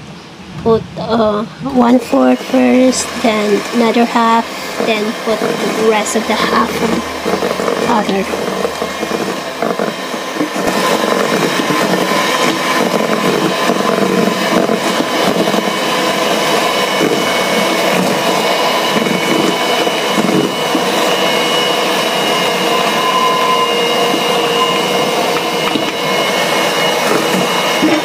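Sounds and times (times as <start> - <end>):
electric hand mixer running: 1.0 - 28.0.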